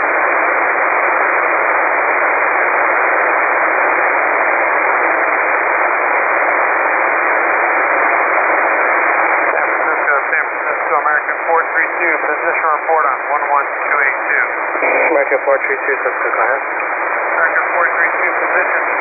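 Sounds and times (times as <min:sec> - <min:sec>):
shortwave receiver hiss: 0:00.0 - 0:19.0.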